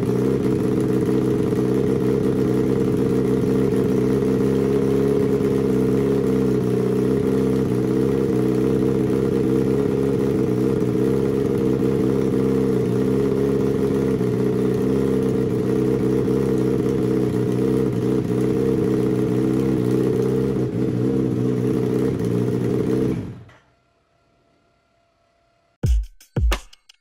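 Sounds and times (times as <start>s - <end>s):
motorcycle engine idling: 0.0s - 23.7s.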